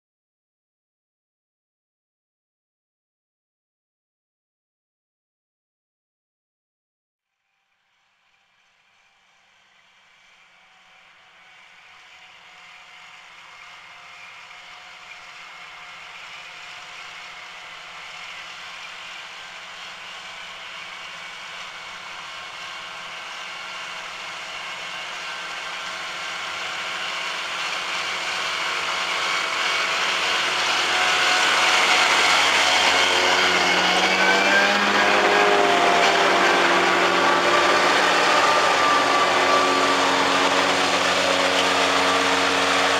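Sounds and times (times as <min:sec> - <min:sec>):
tractor engine and mower drone: 0:07.5 - 0:42.9.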